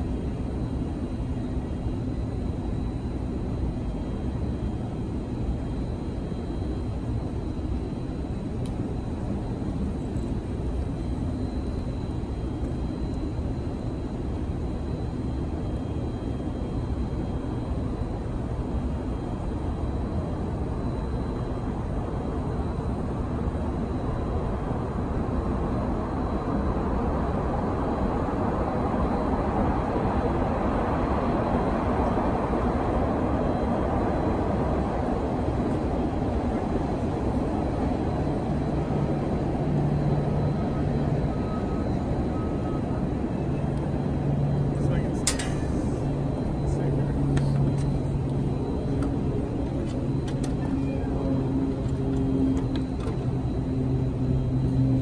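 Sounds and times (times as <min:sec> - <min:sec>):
city background rumble: 0:00.0 - 0:55.0.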